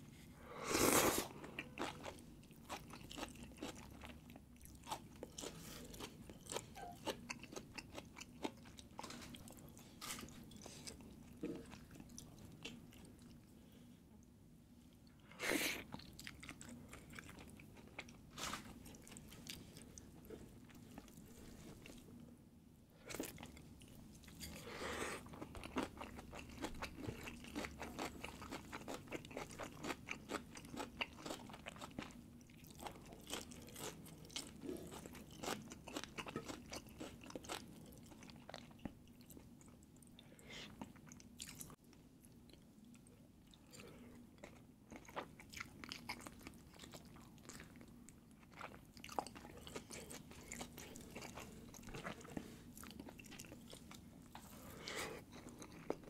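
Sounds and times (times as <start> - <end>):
person chewing food: 0.8 - 13.5, 15.0 - 22.1, 23.0 - 56.0.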